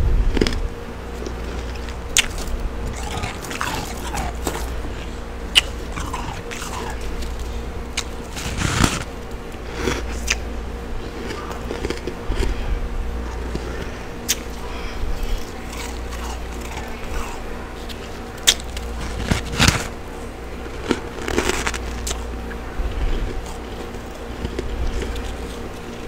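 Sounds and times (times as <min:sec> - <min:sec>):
low hum: 0:00.0 - 0:26.0
chewing frost crunches: 0:00.3 - 0:26.0.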